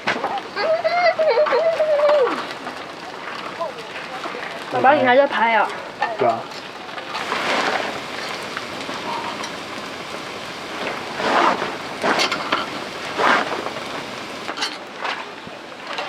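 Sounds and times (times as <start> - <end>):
rain pattering on a tarp: 0.0 - 16.0.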